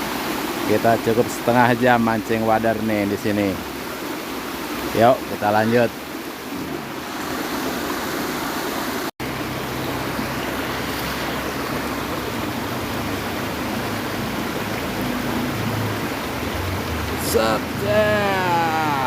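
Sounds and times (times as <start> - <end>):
flowing stream water: 0.0 - 19.0.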